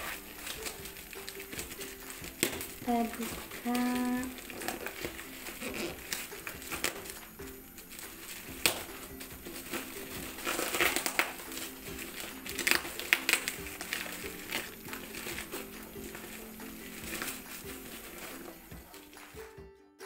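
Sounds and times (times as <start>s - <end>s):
plastic wrapping crinkling: 0.0s - 19.4s.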